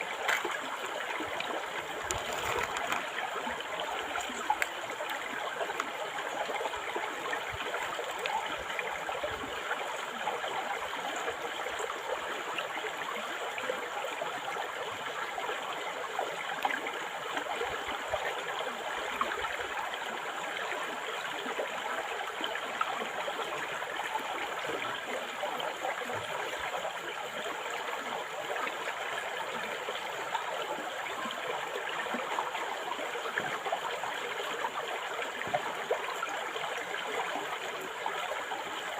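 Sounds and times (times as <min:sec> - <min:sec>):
river water rushing over stones: 0:00.0 - 0:38.9
water splashes and gurgles: 0:00.0 - 0:38.9.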